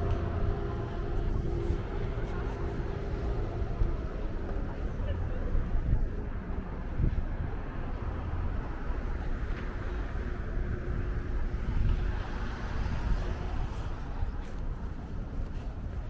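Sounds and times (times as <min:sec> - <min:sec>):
city street low rumble: 0:00.0 - 0:16.0.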